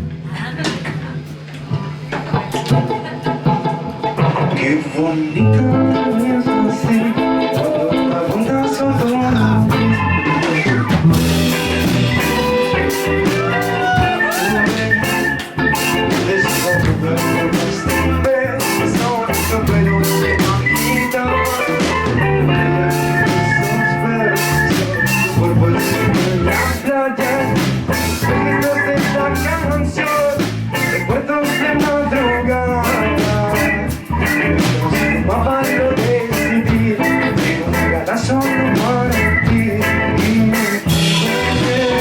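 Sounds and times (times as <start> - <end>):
live rock band playing: 1.6 - 42.0.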